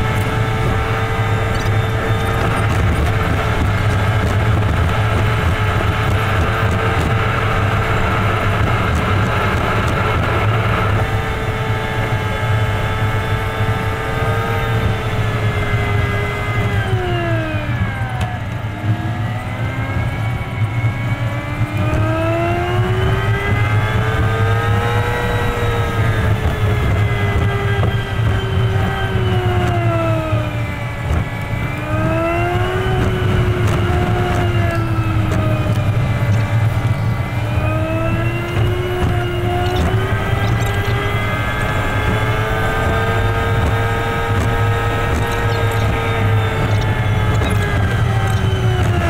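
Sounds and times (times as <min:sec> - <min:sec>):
high whine: 0:00.0 - 0:49.0
vehicle engine and road noise: 0:00.0 - 0:49.0.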